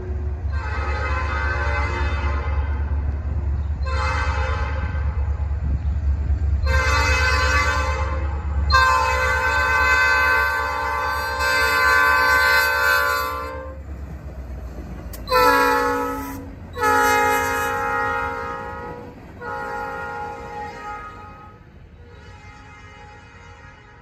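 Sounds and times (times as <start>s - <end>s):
locomotive engine rumble: 0.0s - 24.0s
locomotive air horn blasts: 0.4s - 3.0s, 3.8s - 5.3s, 6.6s - 13.8s, 15.2s - 24.0s.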